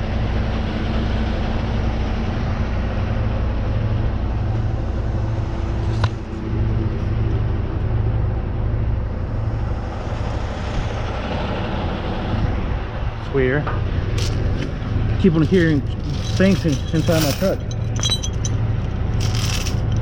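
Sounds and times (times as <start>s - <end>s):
truck engine humming: 0.1s - 20.0s.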